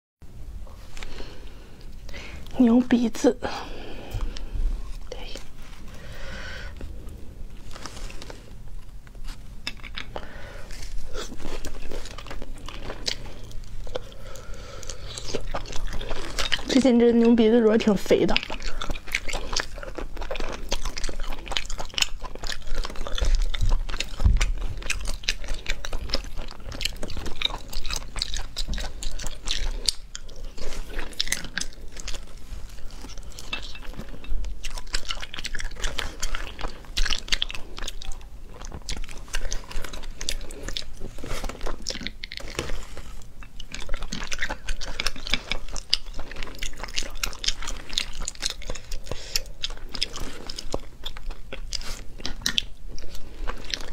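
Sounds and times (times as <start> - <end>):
chewing with wet smacks: 8.2 - 53.9.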